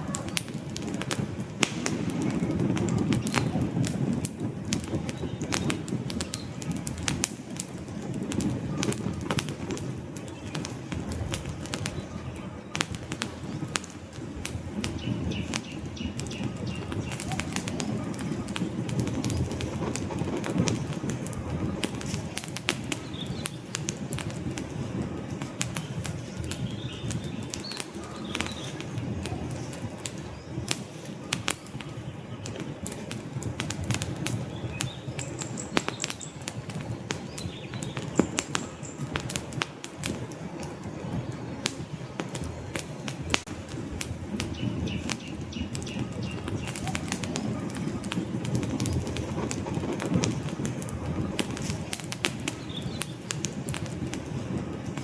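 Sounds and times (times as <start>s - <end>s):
low rumble of flame: 0.0s - 55.0s
wood fire crackling and popping: 0.0s - 55.0s.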